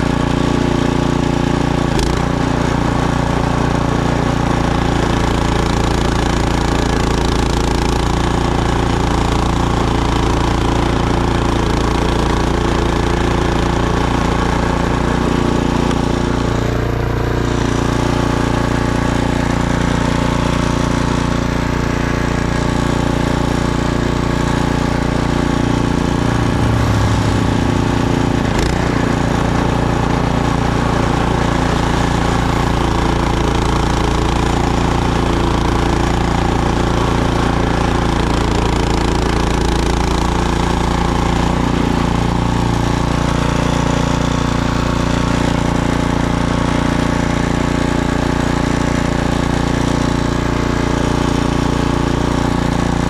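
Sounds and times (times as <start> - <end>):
snowblower engine running: 0.0 - 53.0.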